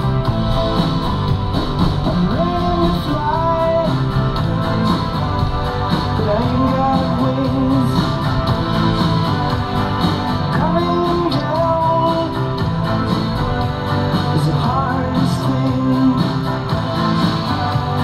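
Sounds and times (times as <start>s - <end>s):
song with guitar and vocals: 0.0s - 18.0s.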